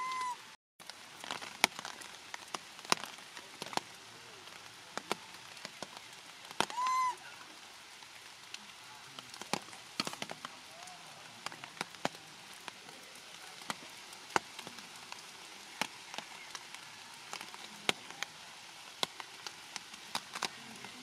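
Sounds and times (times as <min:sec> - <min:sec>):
rain falling: 0:00.0 - 0:21.0
raindrops ticking on surfaces: 0:00.0 - 0:21.0.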